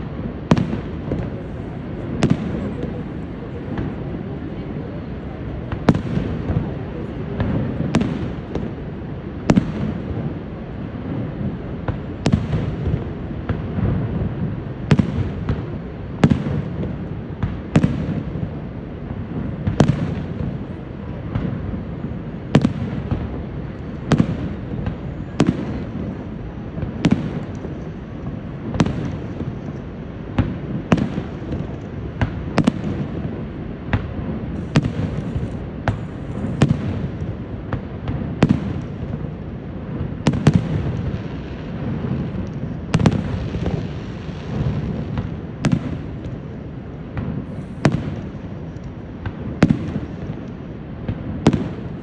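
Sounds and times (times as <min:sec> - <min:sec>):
fireworks bursting with sharp bangs: 0:00.0 - 0:52.0.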